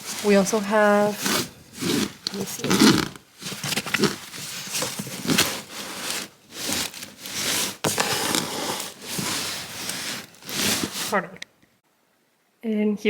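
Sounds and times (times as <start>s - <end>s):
bags and packaging rustling: 0.0s - 11.4s.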